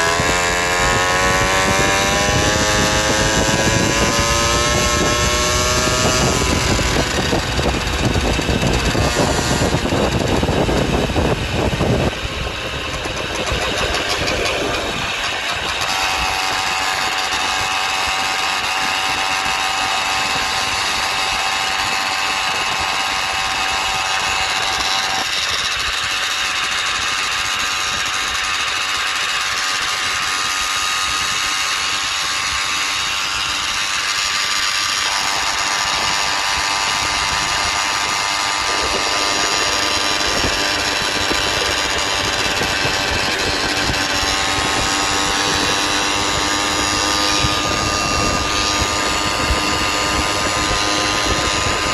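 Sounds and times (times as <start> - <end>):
road and wind noise: 0.0 - 51.9
small engine running: 0.0 - 51.9.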